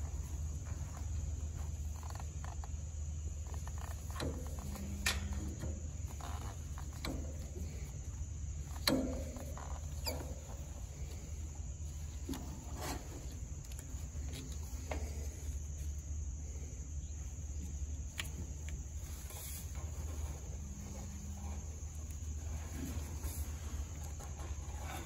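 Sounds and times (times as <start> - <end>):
insects humming: 0.0 - 25.0.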